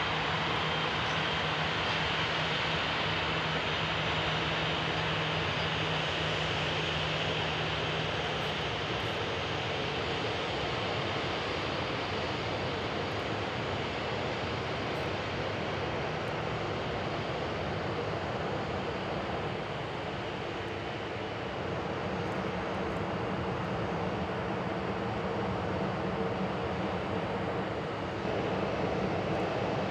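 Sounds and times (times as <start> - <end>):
jet engines running: 0.0 - 29.9.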